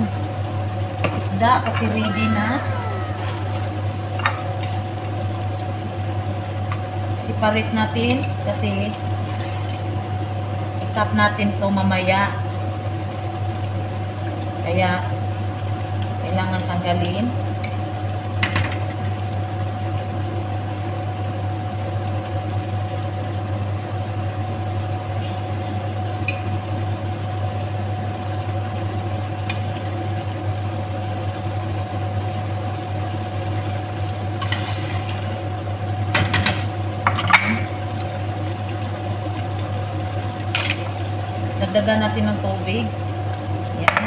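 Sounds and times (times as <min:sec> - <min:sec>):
pot simmering: 0:00.0 - 0:43.9
appliance hum: 0:00.0 - 0:44.0.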